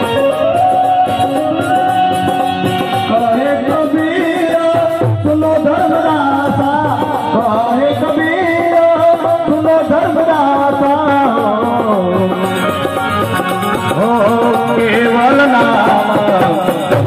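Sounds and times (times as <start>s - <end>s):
hand drum playing: 0.0s - 17.0s
man singing devotional song: 0.0s - 17.0s.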